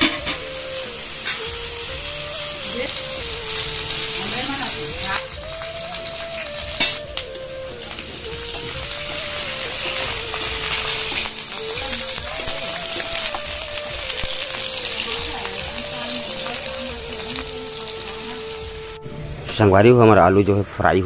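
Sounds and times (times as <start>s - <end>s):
potatoes sizzling in oil: 0.0s - 19.4s.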